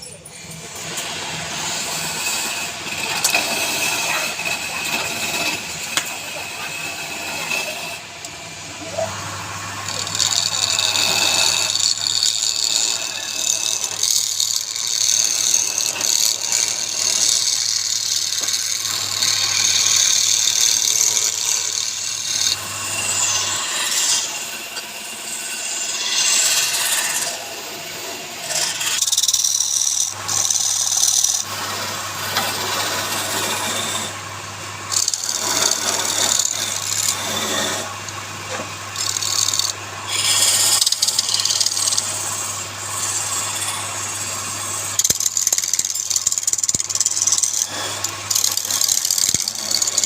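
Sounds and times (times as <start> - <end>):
tools rasping wood: 1.0 - 34.3, 34.9 - 50.0.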